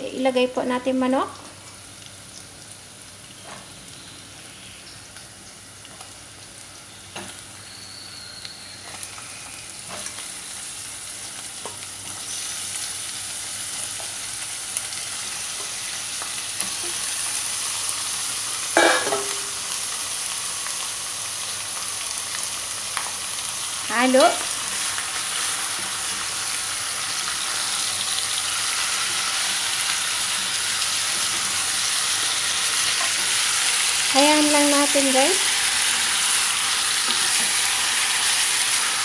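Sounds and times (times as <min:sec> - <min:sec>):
chicken sizzling in hot oil: 0:00.6 - 0:39.0.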